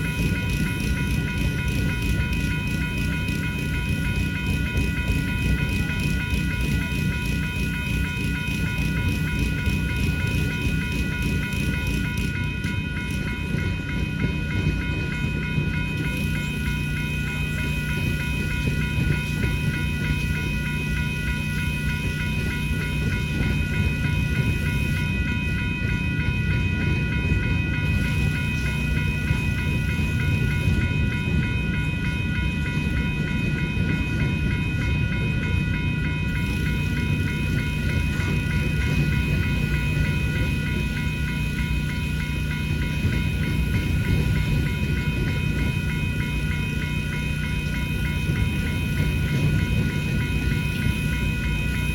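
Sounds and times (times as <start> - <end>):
crossing bells ringing: 0.0 - 51.9
freight train rumbling: 0.0 - 51.9.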